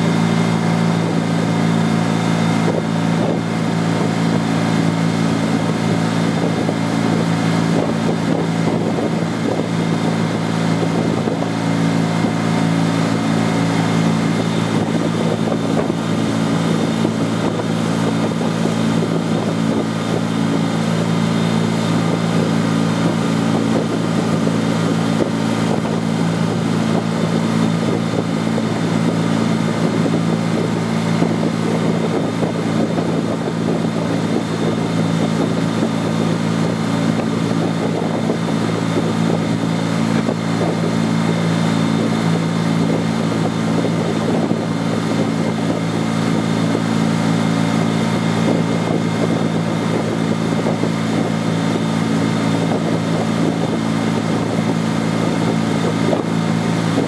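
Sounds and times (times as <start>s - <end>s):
boat engine drone: 0.0s - 57.0s
churning boat wake: 0.0s - 57.0s.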